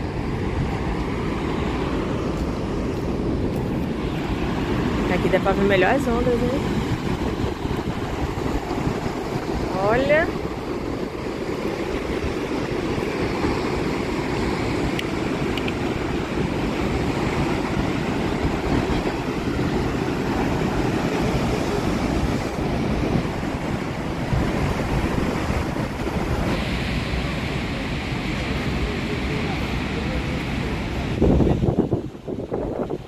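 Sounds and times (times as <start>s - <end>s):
ocean surf breaking on rocks: 0.0s - 33.0s
wind buffeting microphone: 0.0s - 33.0s.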